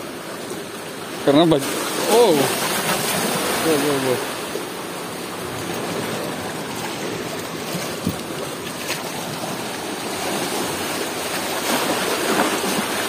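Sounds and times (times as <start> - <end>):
ocean surf over rocks: 0.0 - 13.0.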